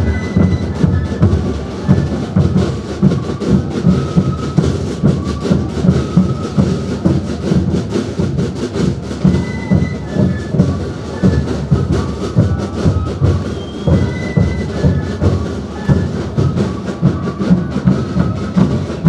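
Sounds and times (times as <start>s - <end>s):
high flute notes: 0.0s - 7.5s, 9.2s - 19.0s
drums beating: 0.0s - 19.0s.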